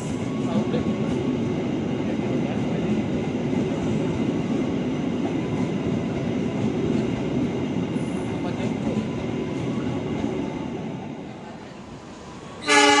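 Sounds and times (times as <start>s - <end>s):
train coaches rolling past: 0.0s - 13.0s.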